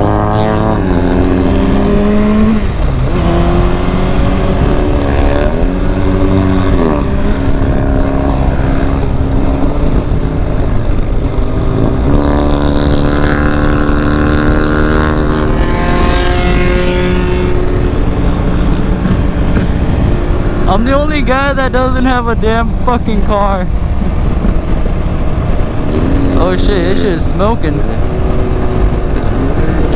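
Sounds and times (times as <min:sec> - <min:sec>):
vehicle engine revving: 0:00.0 - 0:29.9.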